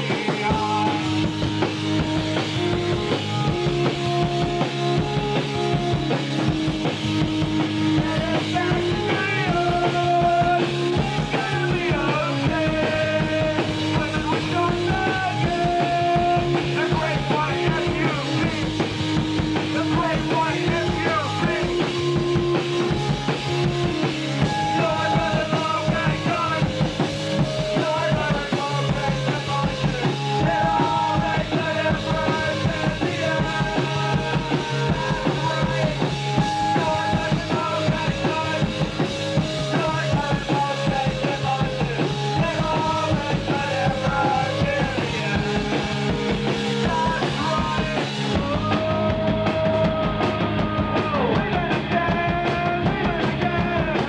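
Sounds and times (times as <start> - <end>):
drum kit beating: 0.0 - 54.0.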